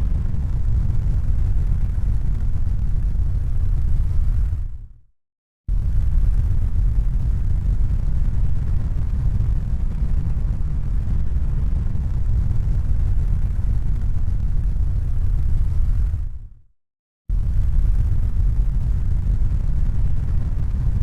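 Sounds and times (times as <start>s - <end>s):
low rumbling noise: 0.0s - 5.0s, 5.7s - 16.6s, 17.3s - 21.0s.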